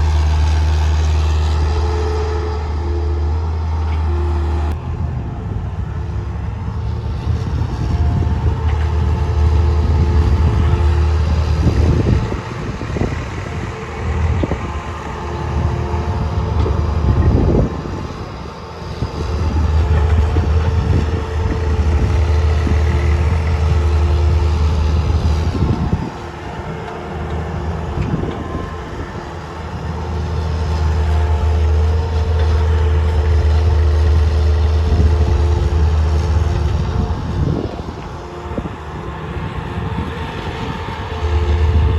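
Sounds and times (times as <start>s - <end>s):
diesel engine working under load: 0.0s - 41.9s.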